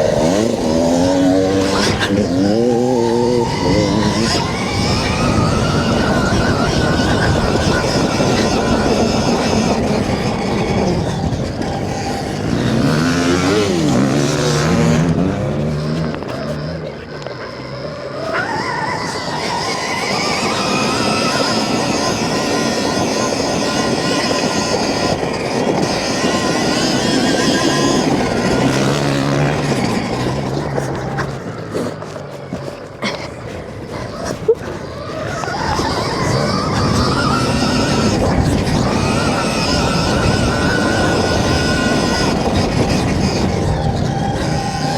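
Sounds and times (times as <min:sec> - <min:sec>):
dirt bike motor revving: 0:00.0 - 0:44.9
wind and ground rumble: 0:00.0 - 0:44.9.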